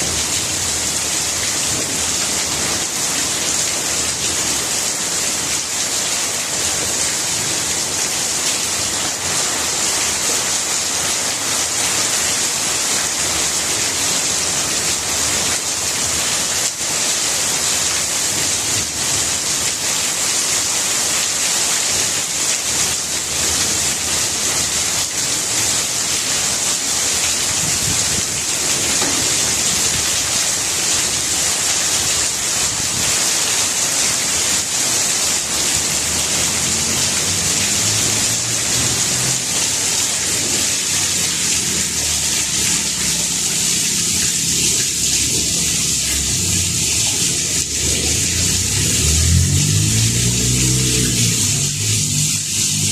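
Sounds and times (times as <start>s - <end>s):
rain falling on leaves: 0.0s - 52.9s.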